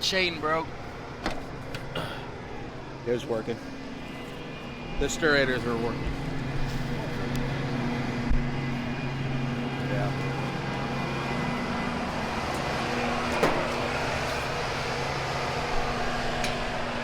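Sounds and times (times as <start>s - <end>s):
farm machinery humming: 0.0s - 17.0s.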